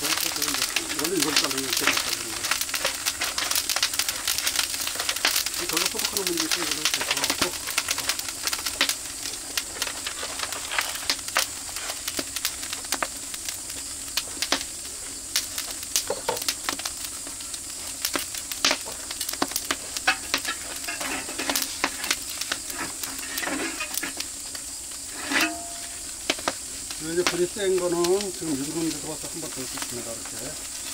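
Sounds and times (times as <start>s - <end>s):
fire pops and crackles: 0.0s - 30.9s
meat sizzling on a grill: 0.0s - 30.9s.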